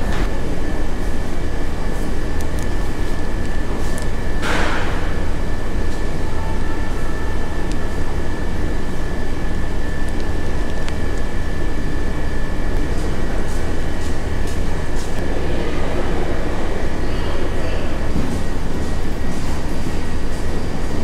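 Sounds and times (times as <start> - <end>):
mechanical rumble with high whine: 0.0 - 21.0.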